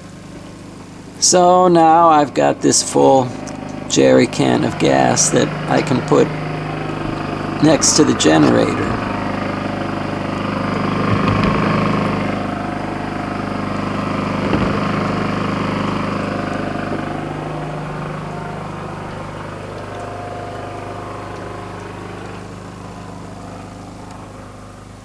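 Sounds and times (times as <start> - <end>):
portable generator running: 0.0 - 25.0.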